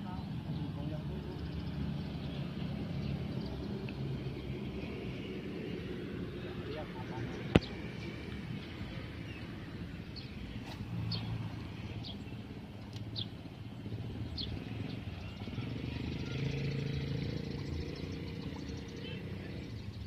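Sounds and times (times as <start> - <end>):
distant engine hum: 0.0 - 20.0.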